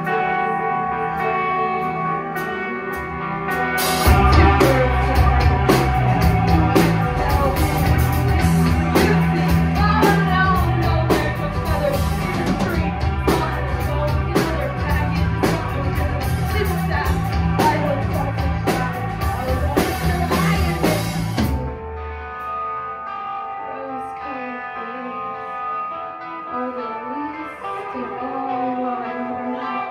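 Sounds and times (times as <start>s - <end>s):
guitar notes ringing: 0.0s - 18.7s, 21.6s - 29.9s
rock band playing: 0.0s - 29.9s.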